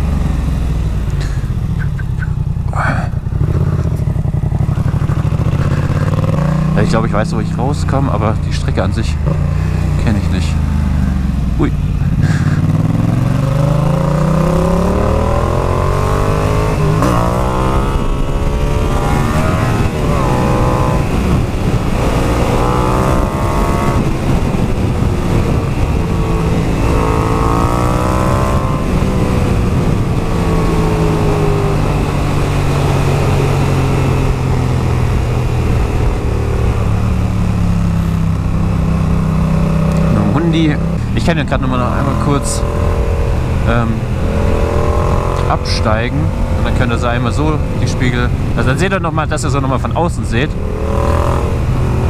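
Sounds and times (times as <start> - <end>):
motorcycle engine revving through gears: 0.0 - 52.0.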